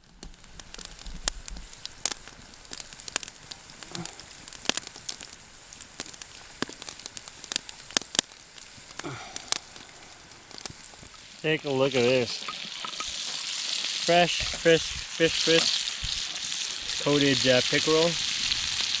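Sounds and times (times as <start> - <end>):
oil popping and spitting: 0.0 - 17.0
fish frying in oil: 0.0 - 19.0.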